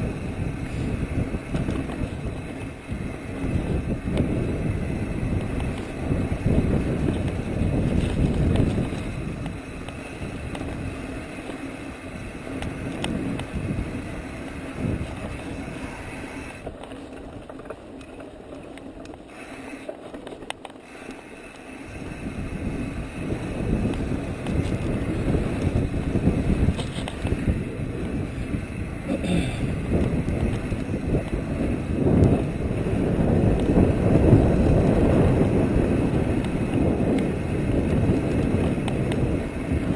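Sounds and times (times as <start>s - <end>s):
bike tyres rolling on dirt: 0.0s - 39.9s
wind rushing over microphone: 0.0s - 39.9s.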